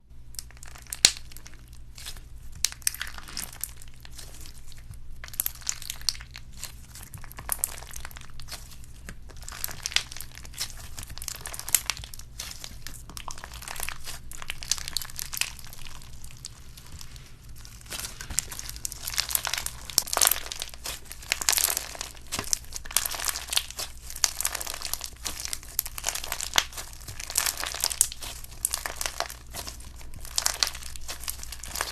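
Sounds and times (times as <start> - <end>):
crunchy slime crackling: 0.3 - 31.9.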